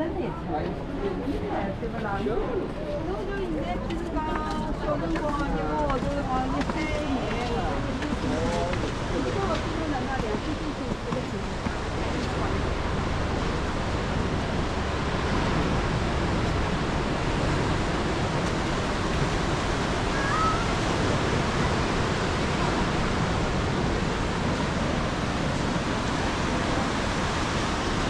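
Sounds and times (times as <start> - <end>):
surf breaking on a beach: 0.7 - 28.0.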